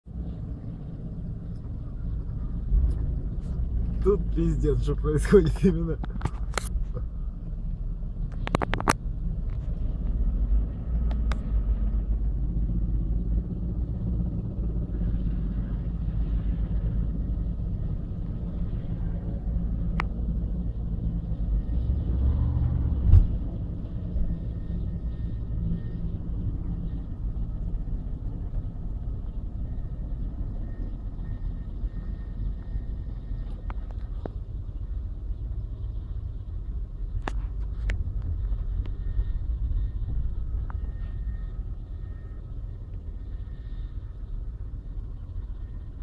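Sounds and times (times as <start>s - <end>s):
helicopter rotors rumbling: 0.1s - 22.2s, 22.8s - 46.0s.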